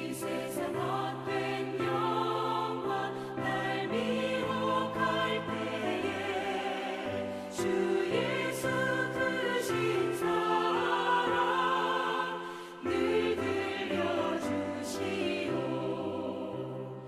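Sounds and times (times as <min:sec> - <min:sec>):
choir singing a hymn: 0:00.0 - 0:17.0.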